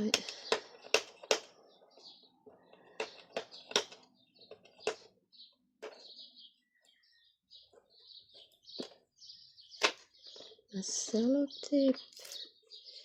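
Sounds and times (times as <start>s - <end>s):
faint bird chirps: 1.6s - 13.0s.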